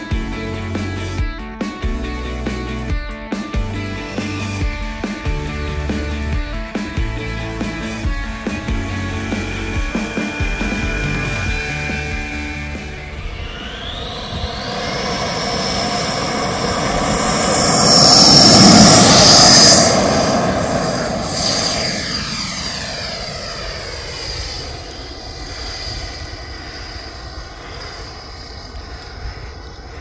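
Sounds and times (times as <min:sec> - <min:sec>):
model jet fans whining: 0:03.6 - 0:30.0.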